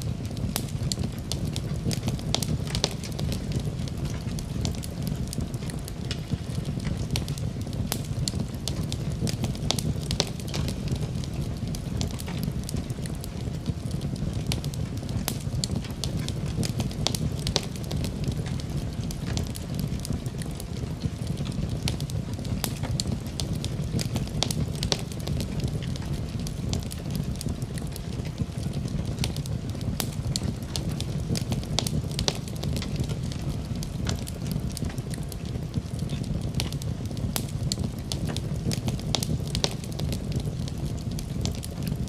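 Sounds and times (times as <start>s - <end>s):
fire crackling and popping: 0.0s - 42.0s
fire flames rumbling: 0.0s - 42.0s.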